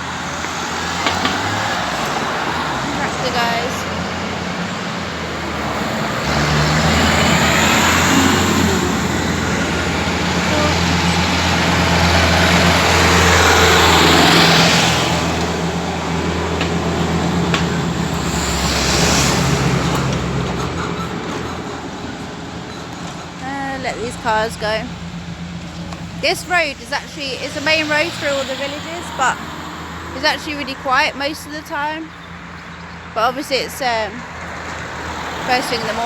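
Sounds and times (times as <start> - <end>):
road traffic passing: 0.0 - 36.0.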